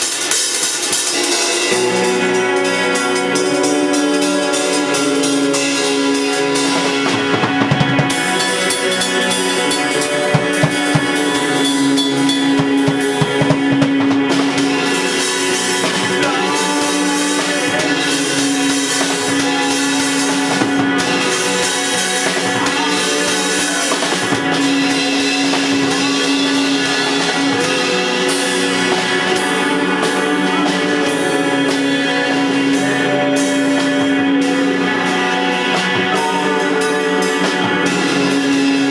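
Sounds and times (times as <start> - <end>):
drum kit hitting: 0.0 - 38.9.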